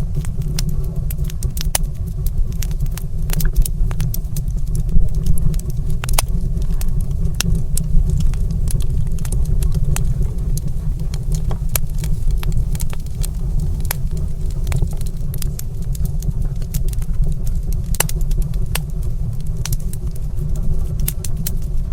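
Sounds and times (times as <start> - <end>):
sharp pops and snaps: 0.0 - 21.8
wood fire crackling: 0.0 - 21.9.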